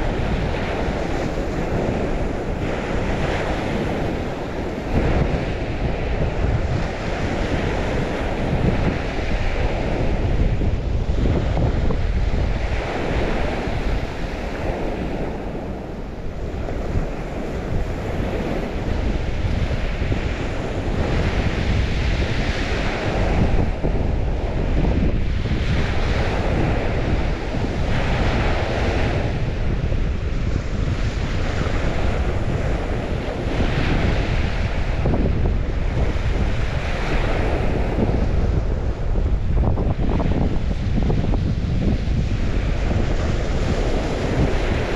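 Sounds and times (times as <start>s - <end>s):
waves washing in and out: 0.0s - 44.9s
wind buffeting the microphone: 0.0s - 44.9s.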